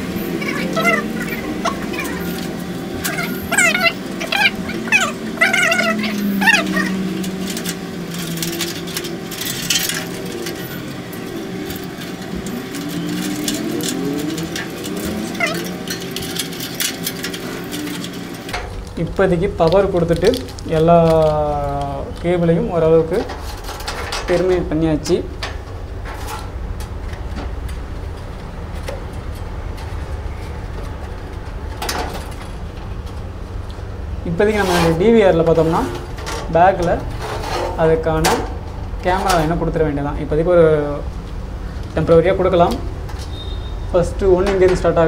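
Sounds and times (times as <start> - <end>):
cables clicking and rustling: 0.0 - 43.4
engine-like hum: 0.0 - 45.0.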